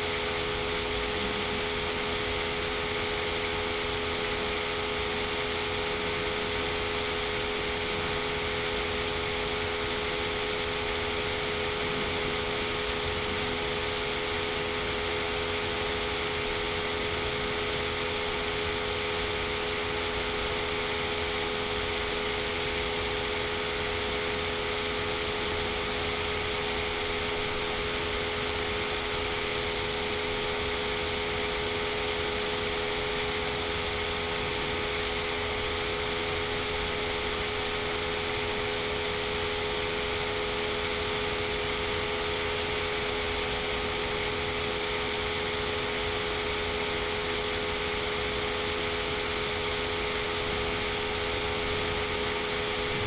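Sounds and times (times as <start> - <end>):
machine hum and hiss: 0.0 - 53.0.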